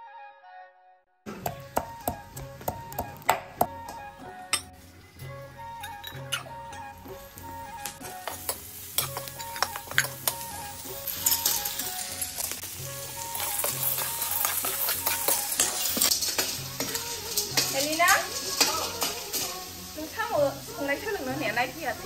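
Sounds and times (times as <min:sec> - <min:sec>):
food sizzling in a pan: 0:01.3 - 0:22.0
metal spatula scraping a wok: 0:03.9 - 0:21.7.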